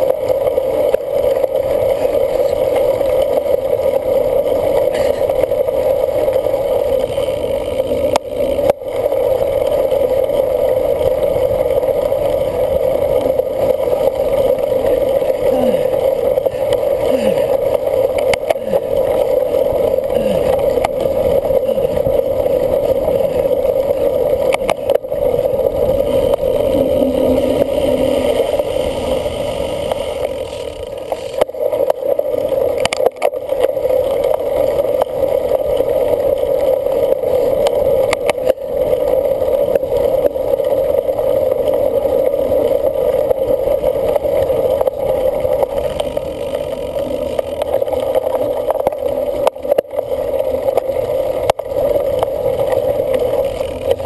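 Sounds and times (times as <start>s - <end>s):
bike clicks and rattles: 0.0s - 54.0s
wind and tyre noise: 0.0s - 54.0s.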